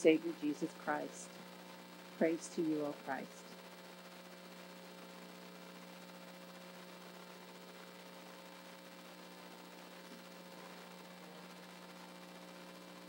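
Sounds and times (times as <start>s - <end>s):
constant hiss: 0.0s - 13.0s
faint electrical hum: 0.0s - 13.0s.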